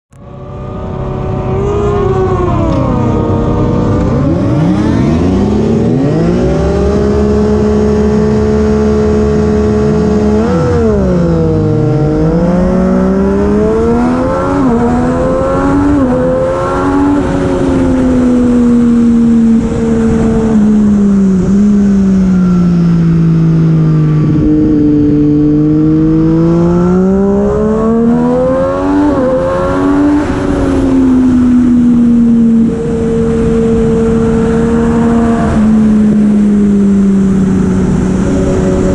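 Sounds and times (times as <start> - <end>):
motorcycle engine revving: 0.2 - 38.9.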